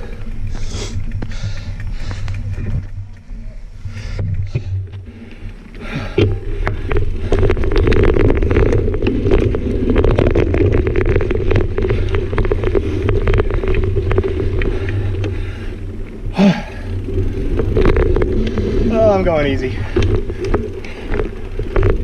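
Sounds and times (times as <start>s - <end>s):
bike clattering and rattling: 0.0s - 22.0s
tyres rumbling on dirt trail: 0.0s - 22.0s.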